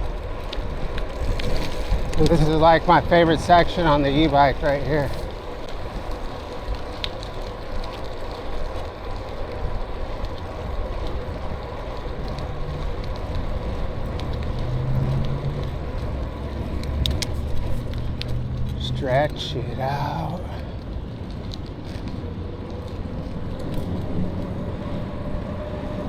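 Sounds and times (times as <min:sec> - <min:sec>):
bike rolling noise: 0:00.0 - 0:26.0.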